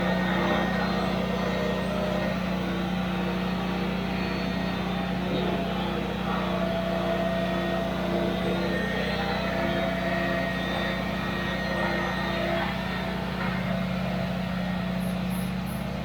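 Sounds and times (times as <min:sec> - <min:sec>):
engine humming steadily: 0:00.0 - 0:16.0.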